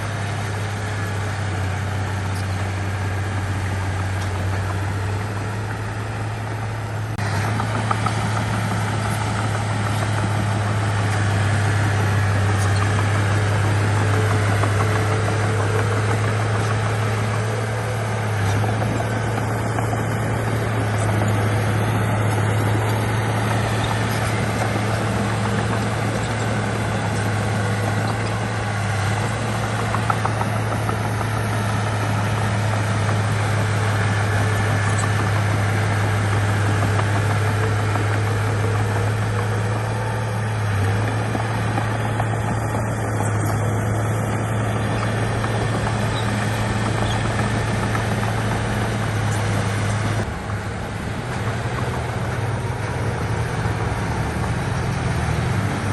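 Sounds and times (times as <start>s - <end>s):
heavy diesel engine droning: 0.0s - 55.9s.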